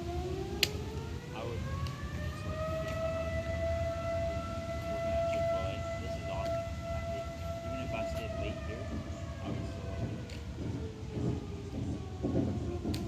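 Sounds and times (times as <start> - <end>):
air raid siren wailing: 0.0 - 13.0.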